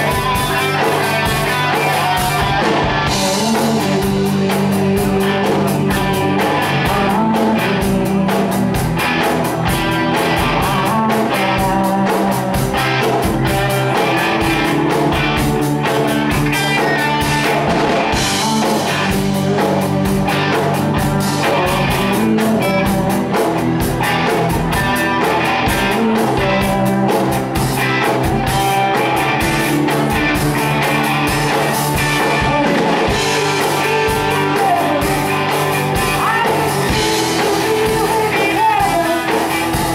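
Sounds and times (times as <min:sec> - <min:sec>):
drum kit beat: 0:00.0 - 0:39.9
electric guitars: 0:00.0 - 0:39.9.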